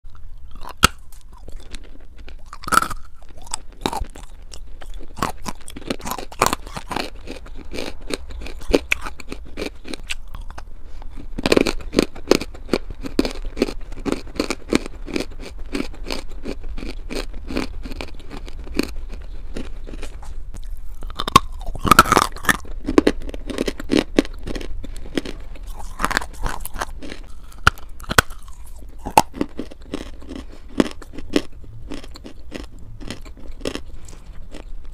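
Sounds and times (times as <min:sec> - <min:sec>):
biting hard clay crunches: 0:00.1 - 0:34.9
gritty chewing: 0:00.1 - 0:34.9.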